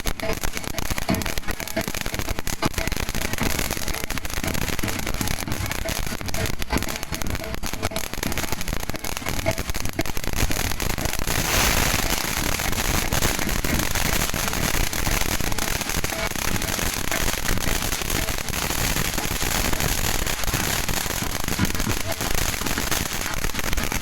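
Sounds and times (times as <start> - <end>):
fireworks crackling pops: 0.0 - 24.0.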